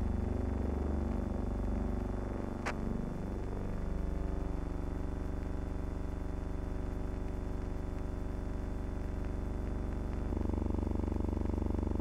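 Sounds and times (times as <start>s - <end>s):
low hum: 0.0s - 12.0s
thin high whine: 0.0s - 12.0s.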